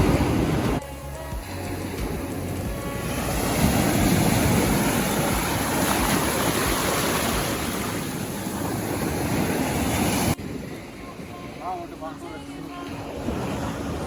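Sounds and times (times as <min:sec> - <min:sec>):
rushing water: 0:00.0 - 0:14.0
rushing wind: 0:00.0 - 0:14.0
wind buffeting microphone: 0:00.0 - 0:14.0.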